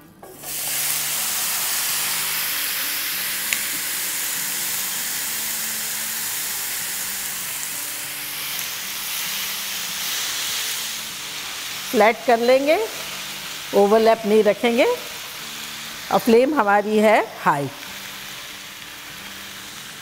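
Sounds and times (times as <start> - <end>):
food sizzling in a frying pan: 0.3 - 20.0.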